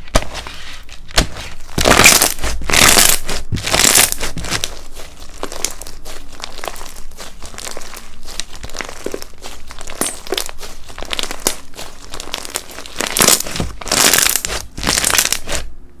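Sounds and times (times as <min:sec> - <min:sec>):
slime crackling by hand: 0:00.0 - 0:15.7.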